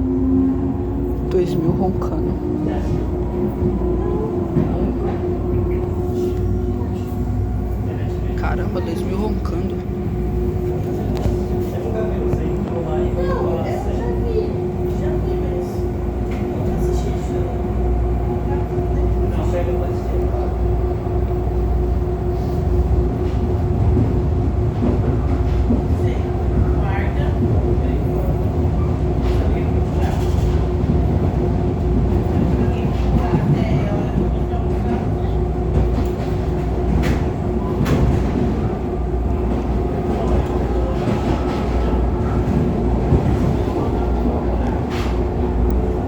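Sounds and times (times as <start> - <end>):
electric train rumble and hum: 0.0 - 46.0.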